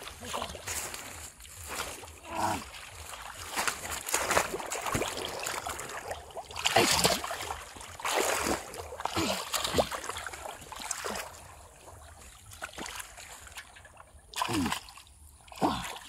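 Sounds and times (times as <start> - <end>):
splashing in shallow muddy water: 0.0 - 16.0.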